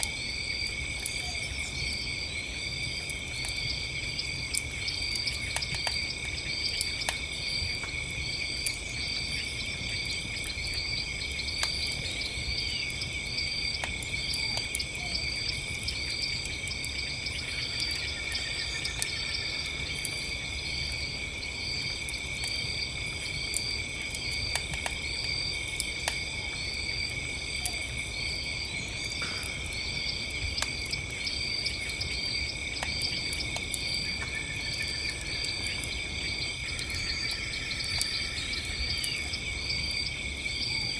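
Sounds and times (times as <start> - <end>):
crickets chirping: 0.0 - 40.9
campfire crackling and popping: 2.6 - 40.3.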